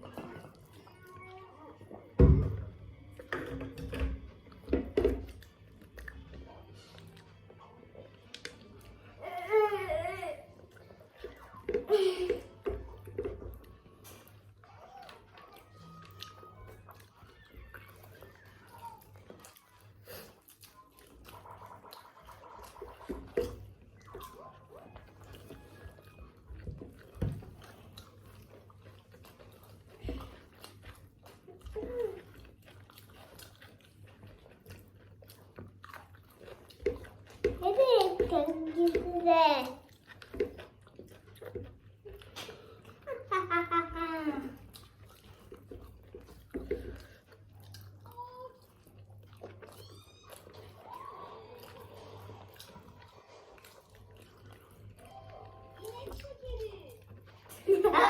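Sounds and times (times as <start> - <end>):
wet chewing: 0.0 - 58.0.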